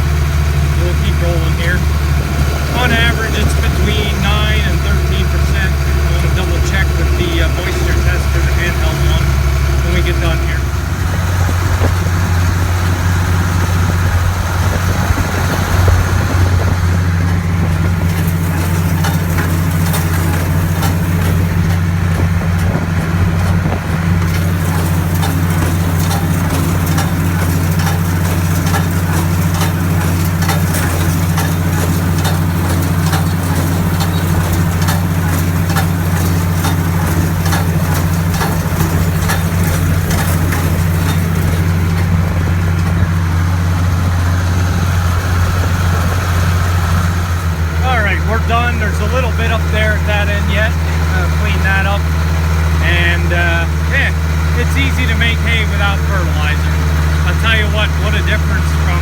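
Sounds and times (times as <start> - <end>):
hay baler clicking and knocking: 0.0 - 59.0
tractor engine running: 0.0 - 59.0.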